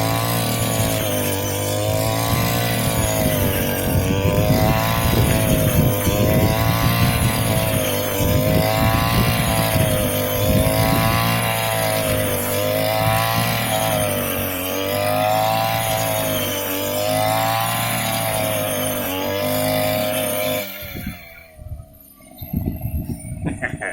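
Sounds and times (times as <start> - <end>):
small engine revving: 0.0 - 23.9.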